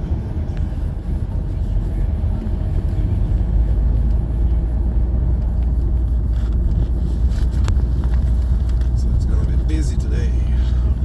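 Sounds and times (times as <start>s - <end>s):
moving vehicle road rumble: 0.0s - 11.0s.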